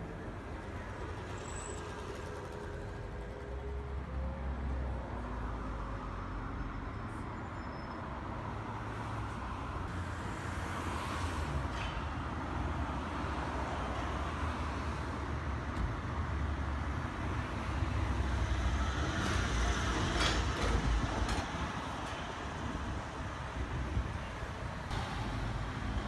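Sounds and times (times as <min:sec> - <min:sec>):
street traffic rumble: 0:00.0 - 0:26.0
trolleybus passing: 0:00.0 - 0:26.0.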